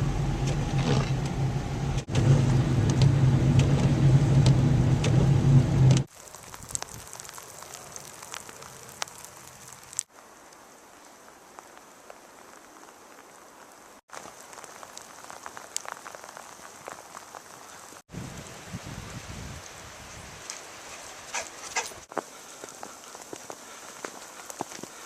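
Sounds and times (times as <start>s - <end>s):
steady rain falling: 2.0s - 25.0s.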